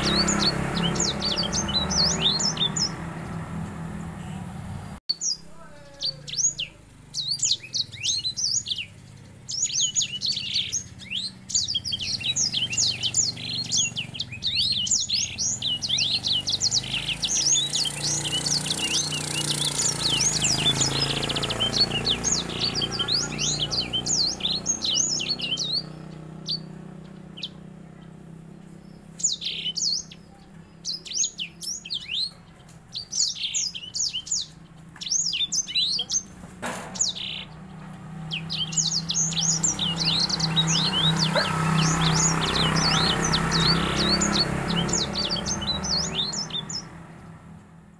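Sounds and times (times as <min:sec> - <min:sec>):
finch singing chirps and trills: 0:00.0 - 0:03.7, 0:04.8 - 0:47.4.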